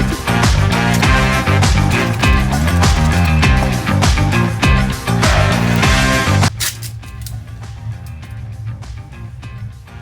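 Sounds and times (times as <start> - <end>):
music with a steady beat: 0.0 - 6.6, 7.3 - 10.0.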